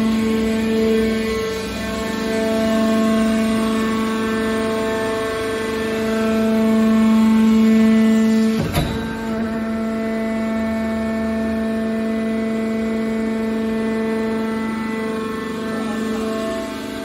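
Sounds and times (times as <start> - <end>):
hydraulic motor and pump humming: 0.0 - 17.0.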